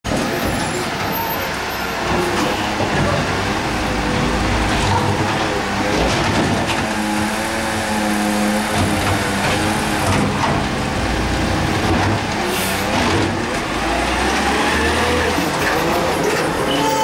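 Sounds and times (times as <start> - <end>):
garbage truck engine droning: 0.1 - 17.0.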